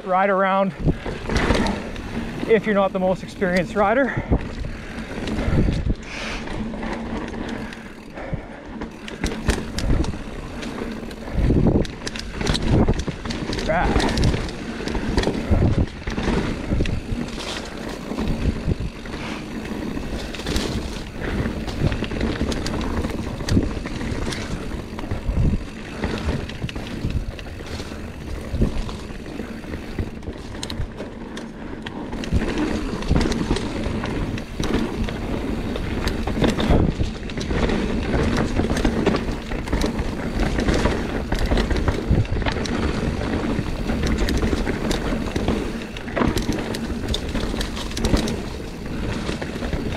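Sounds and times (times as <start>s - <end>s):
bike rattling and clattering: 0.0s - 49.9s
tyres rolling over dirt and rock: 0.1s - 49.9s
wind on microphone: 4.1s - 6.8s, 9.4s - 31.0s, 32.2s - 49.9s.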